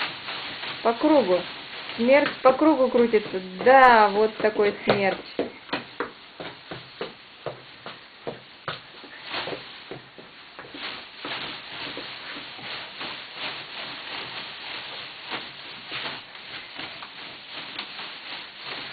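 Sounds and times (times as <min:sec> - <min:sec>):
ribbons rustling and swishing: 0:00.0 - 0:18.9.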